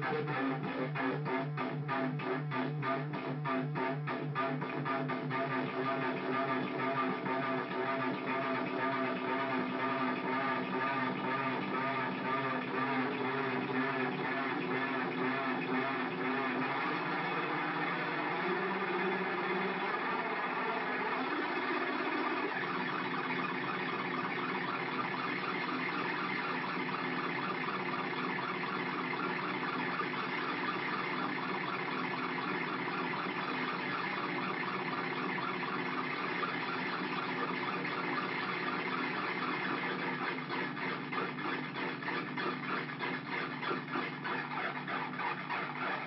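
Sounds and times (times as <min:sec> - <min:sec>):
synthesizer drone with flutter: 0:00.0 - 0:46.0.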